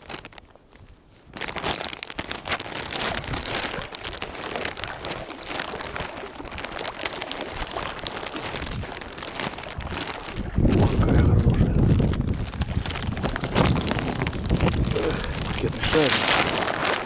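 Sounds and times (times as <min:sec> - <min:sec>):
water splashing and dripping: 0:02.0 - 0:17.0.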